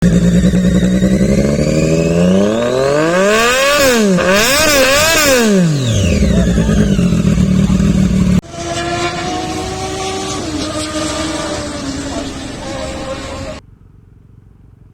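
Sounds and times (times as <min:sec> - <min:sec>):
motorcycle engine idling and revving: 0:00.0 - 0:14.9.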